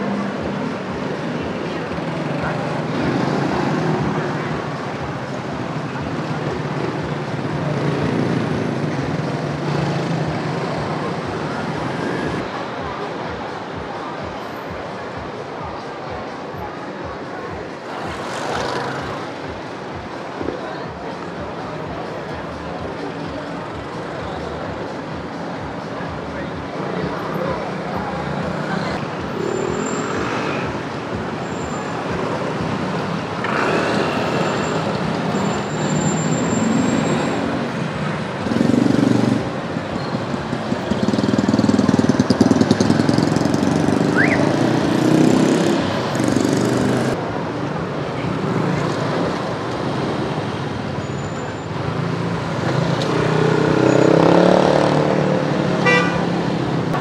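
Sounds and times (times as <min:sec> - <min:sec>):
motorbikes passing: 0:00.0 - 0:57.0
traffic din: 0:00.0 - 0:57.0.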